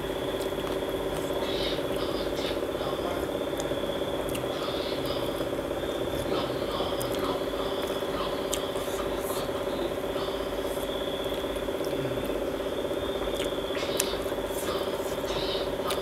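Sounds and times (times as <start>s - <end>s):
chewing and slurping: 0.0s - 16.0s
steady hum: 0.0s - 16.0s.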